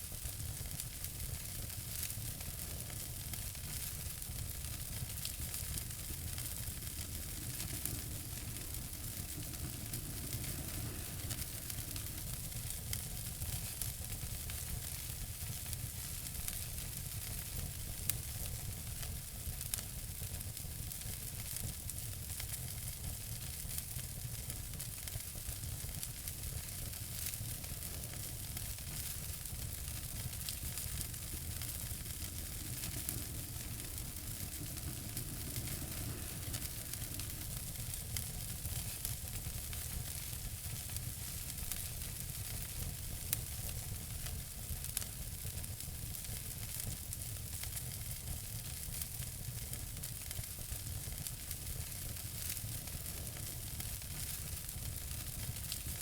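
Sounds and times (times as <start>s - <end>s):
low rumble and hiss: 0.0s - 56.0s
wood fire crackling: 0.0s - 56.0s.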